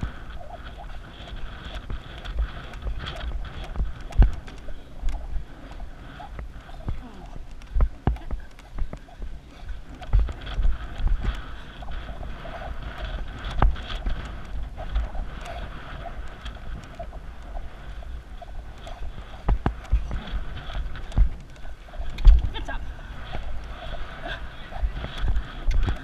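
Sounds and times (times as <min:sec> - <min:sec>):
horse hooves on soft ground: 0:00.0 - 0:26.0
wind rushing over microphone: 0:00.0 - 0:26.0.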